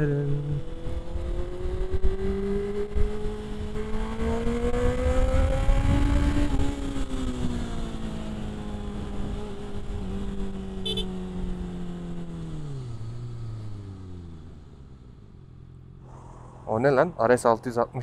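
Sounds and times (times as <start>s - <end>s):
motorcycle engine running: 1.2s - 16.0s.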